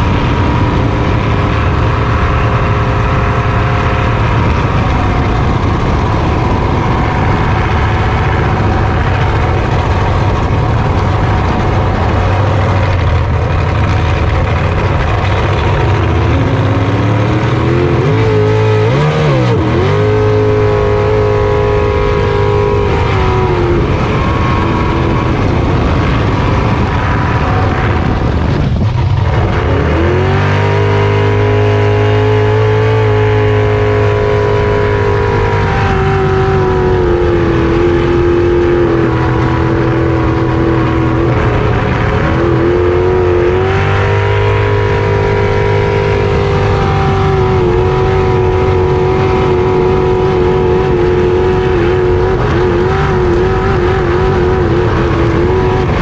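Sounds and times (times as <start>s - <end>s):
jet boat engine revving: 0.0s - 56.0s.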